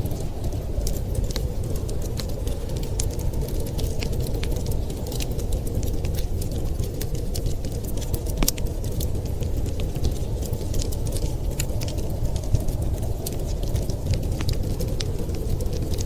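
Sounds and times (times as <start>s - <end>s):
low rumble of storm wind: 0.0s - 16.0s
wood fire crackling and popping: 0.0s - 16.0s.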